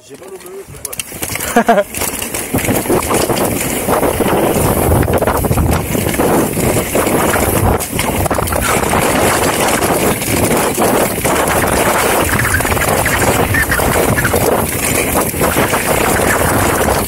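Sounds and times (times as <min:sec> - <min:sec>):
bike rolling over dirt trail: 0:00.0 - 0:17.0
bike clattering over bumps: 0:00.1 - 0:17.0
wind on microphone: 0:02.5 - 0:17.0.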